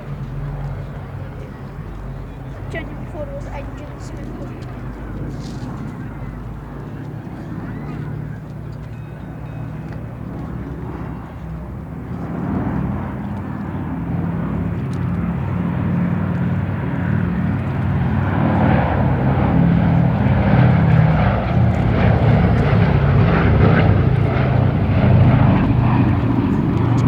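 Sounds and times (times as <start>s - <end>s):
aircraft engines droning: 0.0s - 27.0s.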